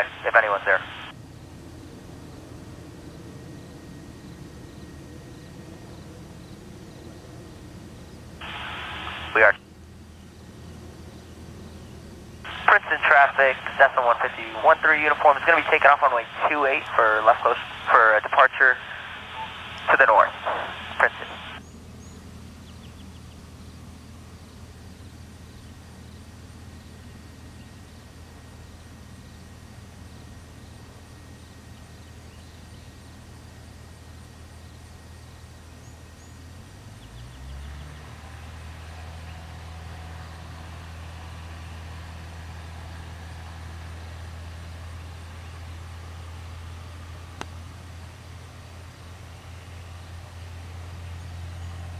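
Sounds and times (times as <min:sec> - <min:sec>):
light aircraft engine: 0:00.0 - 0:51.9.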